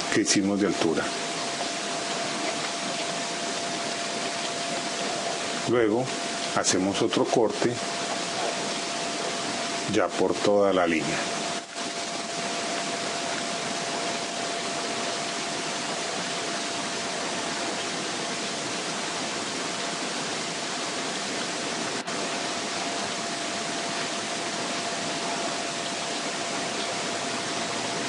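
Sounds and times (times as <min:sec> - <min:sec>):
recording hiss: 0:00.0 - 0:28.0.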